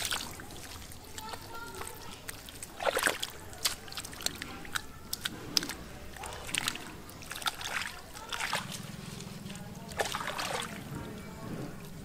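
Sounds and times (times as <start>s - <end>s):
hands squelching in wet mud: 0.0s - 11.2s.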